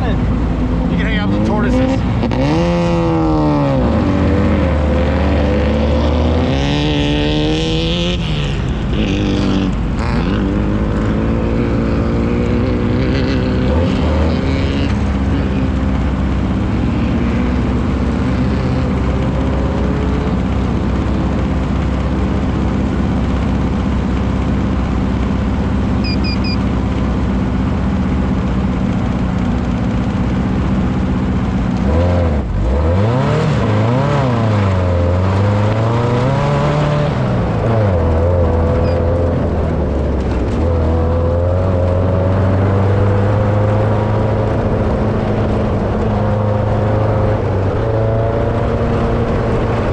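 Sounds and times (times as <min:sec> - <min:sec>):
race vehicle engine running hard: 0:00.0 - 0:49.9.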